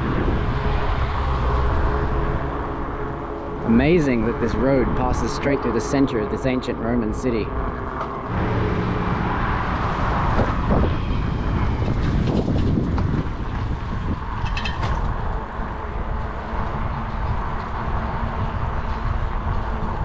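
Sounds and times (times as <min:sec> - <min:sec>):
road traffic passing: 0:00.0 - 0:20.0
wind rumbling on microphone: 0:00.0 - 0:20.0.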